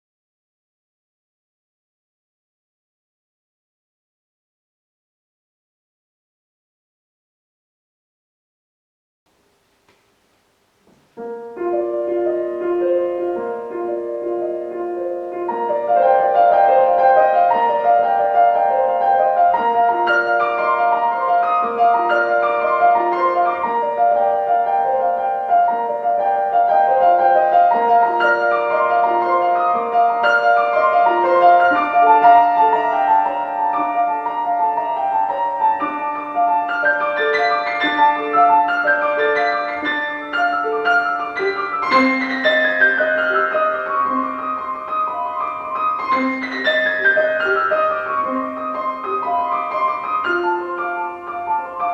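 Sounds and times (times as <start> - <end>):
solo classical piano: 9.3 - 51.9.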